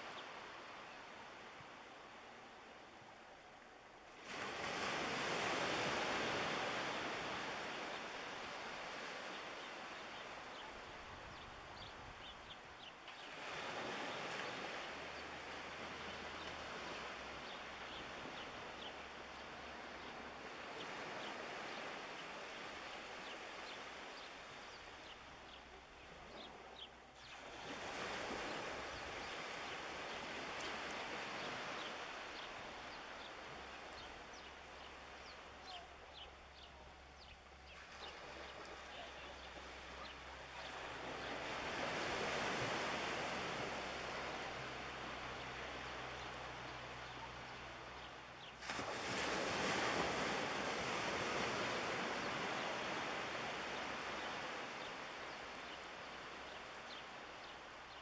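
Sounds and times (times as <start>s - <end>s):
small waves breaking on shore: 0.0s - 58.0s.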